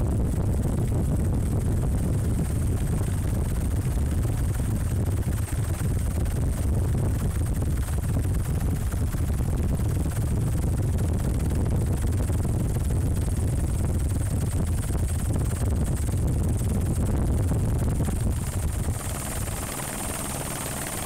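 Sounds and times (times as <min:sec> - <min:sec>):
helicopter rotor and engine rumble: 0:00.0 - 0:21.0
high steady whine: 0:00.0 - 0:21.0.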